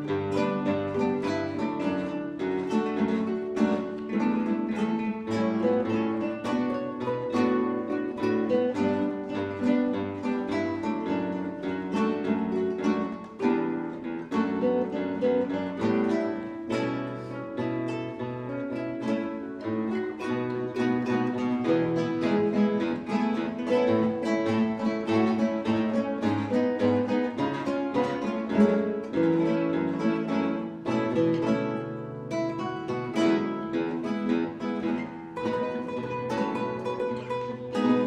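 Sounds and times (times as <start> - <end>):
classical guitars playing: 0.0 - 38.0.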